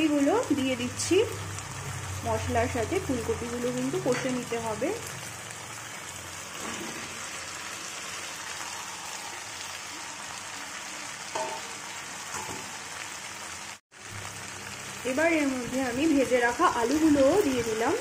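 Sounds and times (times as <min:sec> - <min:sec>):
vegetables sizzling in a wok: 0:00.0 - 0:18.0.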